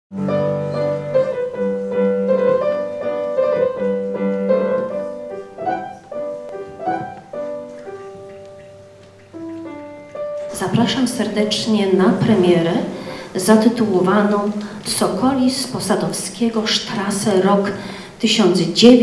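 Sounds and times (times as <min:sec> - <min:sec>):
solo piano melody: 0:00.1 - 0:16.6.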